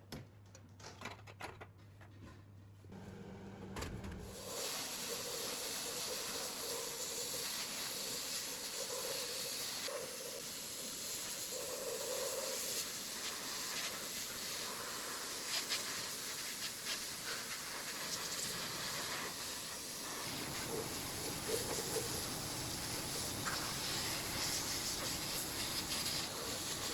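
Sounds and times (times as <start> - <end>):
steady hissing: 4.3 - 26.9.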